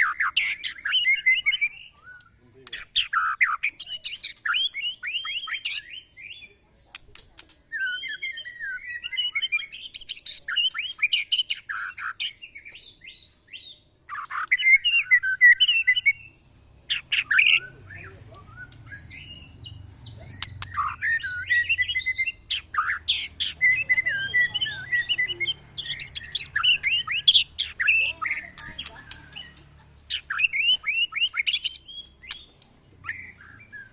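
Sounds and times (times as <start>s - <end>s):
songbird singing whistles and trills: 0.0s - 7.0s, 7.7s - 33.9s.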